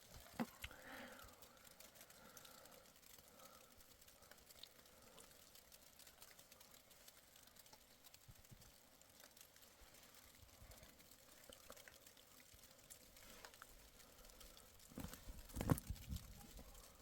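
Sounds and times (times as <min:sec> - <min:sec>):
faint hiss: 0:00.0 - 0:17.0
small ticks: 0:00.0 - 0:17.0.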